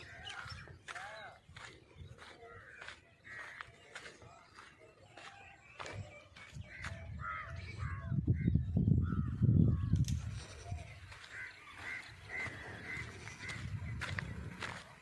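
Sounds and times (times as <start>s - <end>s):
crow-like bird calls: 0.0s - 15.0s.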